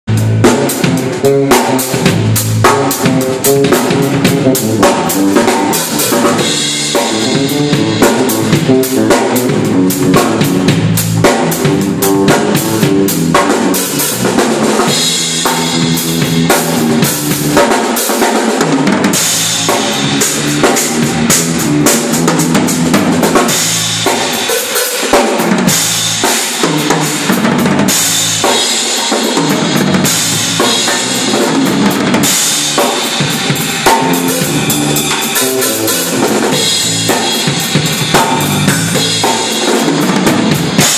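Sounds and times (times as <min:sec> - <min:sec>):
drum kit groove: 0:00.1 - 0:40.9
electric bass line: 0:00.1 - 0:40.9.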